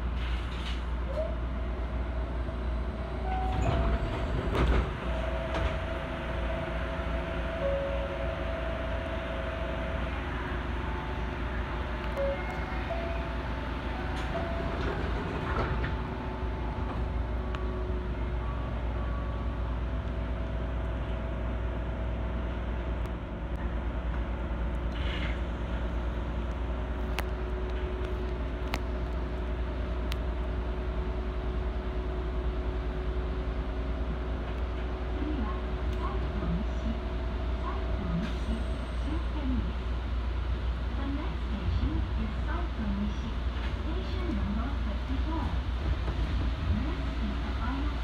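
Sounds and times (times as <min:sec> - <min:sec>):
train hum: 0:00.0 - 0:48.0.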